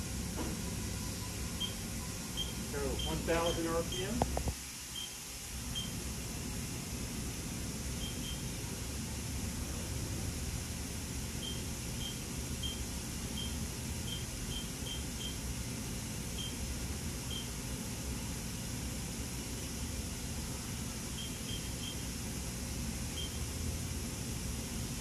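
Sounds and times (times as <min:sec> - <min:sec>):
machine spindle hum and hiss: 0:00.0 - 0:25.0.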